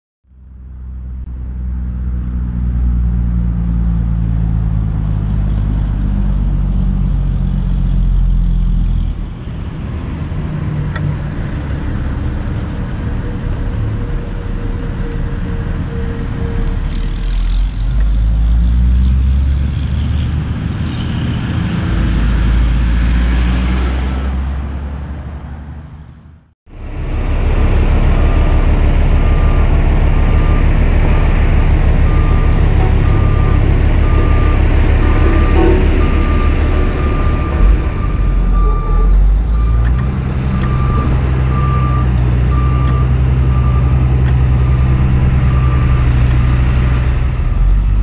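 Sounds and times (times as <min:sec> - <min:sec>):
diesel truck engine under load: 0:00.3 - 0:48.0.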